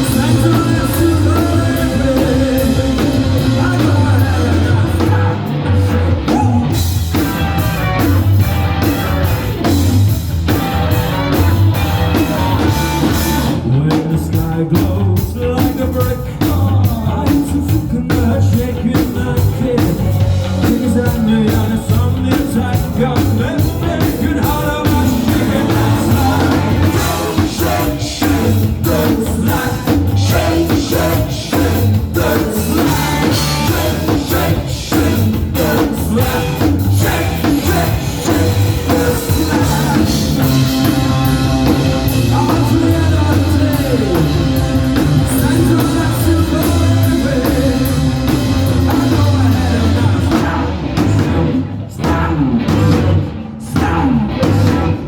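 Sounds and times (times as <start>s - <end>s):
person singing: 0.0s - 6.9s, 12.0s - 55.0s
drum kit: 0.0s - 55.0s
rock band playing live: 0.0s - 55.0s.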